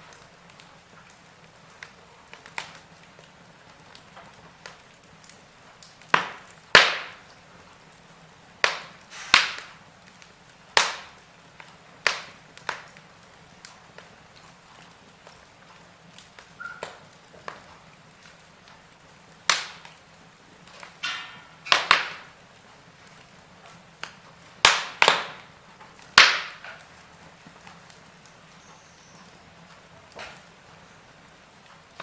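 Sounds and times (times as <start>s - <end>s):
faint steady hiss: 0.0s - 32.0s
loud sharp pops from fire: 0.0s - 32.0s
wood fire crackling: 0.0s - 32.0s.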